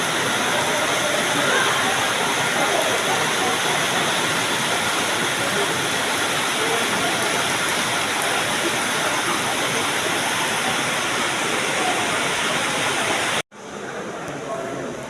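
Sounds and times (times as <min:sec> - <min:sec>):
floodwater flowing: 0:00.0 - 0:13.4
heavy rain: 0:00.0 - 0:13.4.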